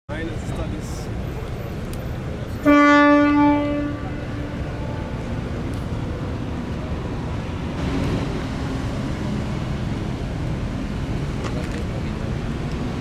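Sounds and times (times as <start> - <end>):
vehicles rumbling: 0.1 - 13.0.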